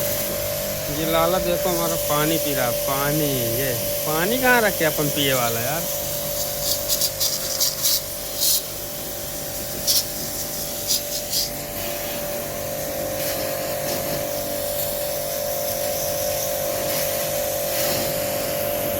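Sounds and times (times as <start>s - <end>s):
pressure washer motor whine: 0.0s - 18.9s
water jet spraying: 0.0s - 18.9s.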